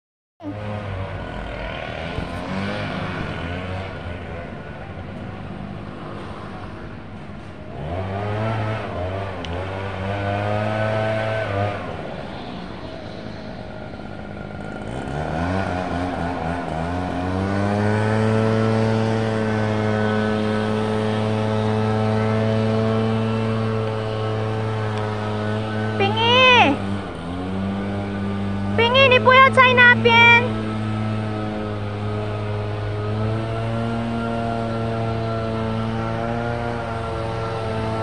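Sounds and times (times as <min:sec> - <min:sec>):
diesel locomotive engine revving: 0:00.4 - 0:38.0.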